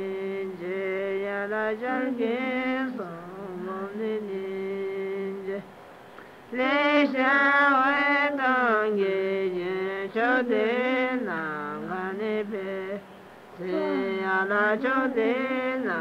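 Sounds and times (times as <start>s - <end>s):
slow chant-like singing: 0.0s - 16.0s.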